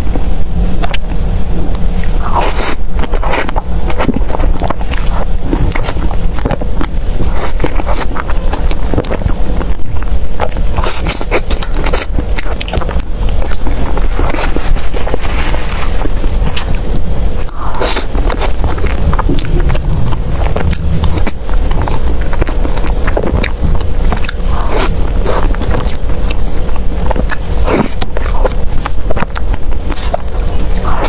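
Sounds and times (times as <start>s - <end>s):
close eating and chewing: 0.0s - 31.0s
sticky chewing clicks: 0.8s - 31.0s.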